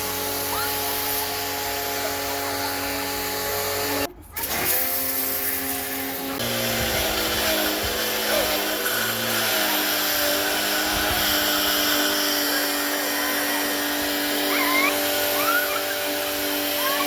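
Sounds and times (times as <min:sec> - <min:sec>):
pressure washer motor humming: 0:00.0 - 0:17.0
water spray hissing: 0:00.0 - 0:17.0.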